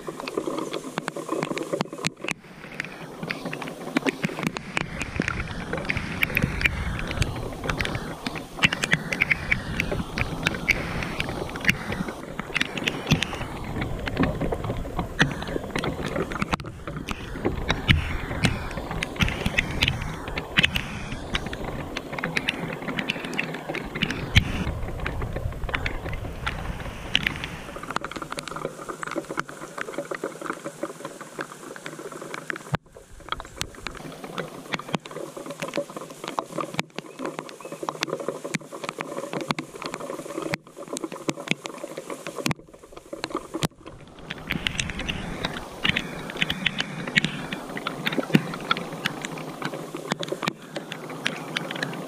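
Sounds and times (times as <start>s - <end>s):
rain pattering: 0.0s - 52.0s
raindrops ticking close by: 0.0s - 52.0s.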